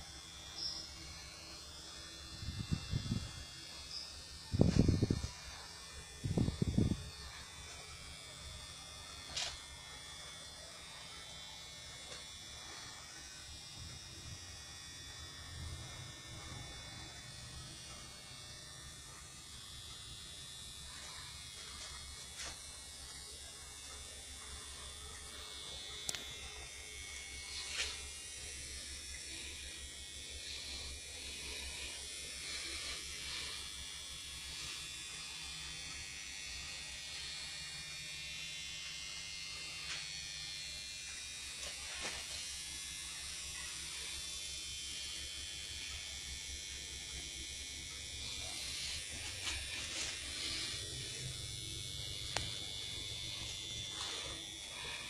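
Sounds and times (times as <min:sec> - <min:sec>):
low electrical buzz: 0:00.0 - 0:55.0.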